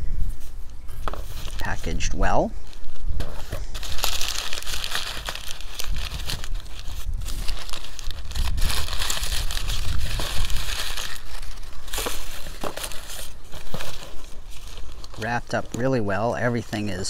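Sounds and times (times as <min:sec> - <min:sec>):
paper crinkling and rustling: 0:00.9 - 0:17.0.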